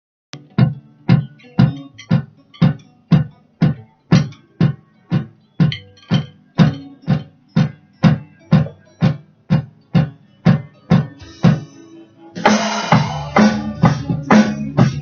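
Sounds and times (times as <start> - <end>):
drum kit playing a beat: 0.4 - 11.8, 12.4 - 15.0
recorded song: 0.4 - 15.0.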